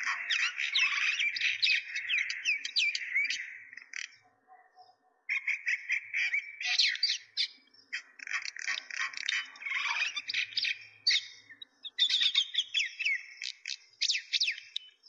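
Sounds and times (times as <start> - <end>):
small birds chirping and twittering: 0.0 - 15.0.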